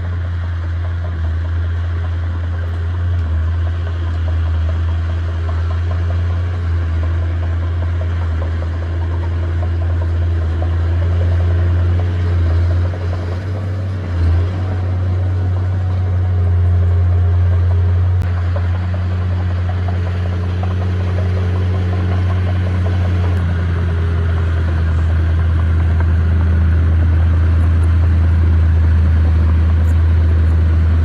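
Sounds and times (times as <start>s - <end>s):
diesel engine deep drone: 0.0s - 31.0s.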